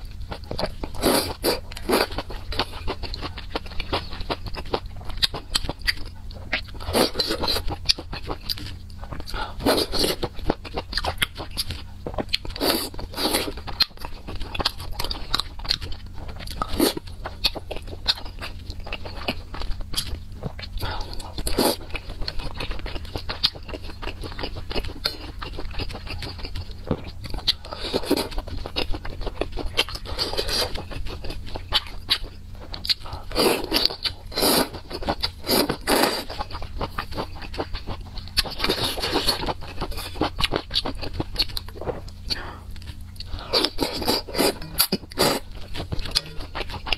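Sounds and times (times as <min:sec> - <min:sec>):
chewing and mouth sounds: 0:00.0 - 0:46.9.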